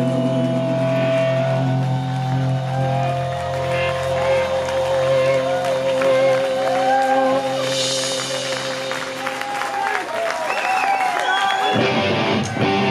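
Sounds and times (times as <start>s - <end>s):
live rock band: 0.0s - 12.9s
audience cheering and applauding: 0.4s - 12.9s
audience shouting: 1.1s - 12.9s.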